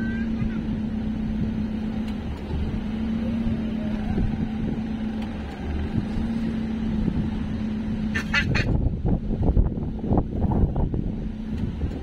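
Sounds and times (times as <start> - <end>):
low mechanical hum: 0.0 - 12.0
wind rumbling on microphone: 0.0 - 12.0.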